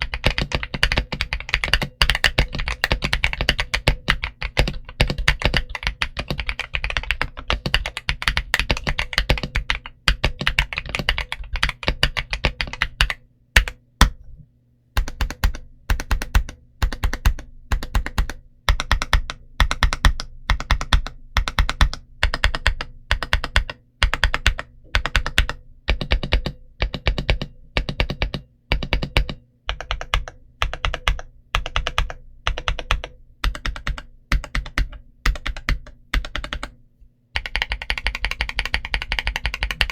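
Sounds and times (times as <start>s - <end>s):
mechanical keyboard typing: 0.0s - 14.2s, 15.0s - 36.8s, 37.4s - 39.9s.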